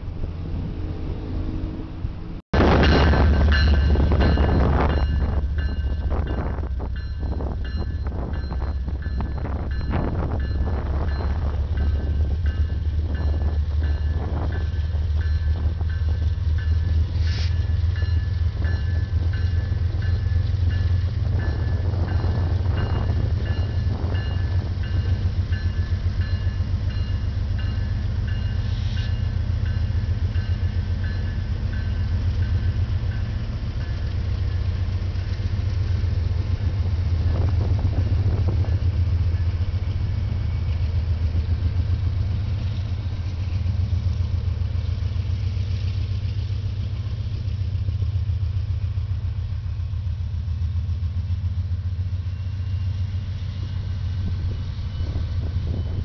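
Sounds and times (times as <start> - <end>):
locomotive engine rumble: 0.0 - 56.0.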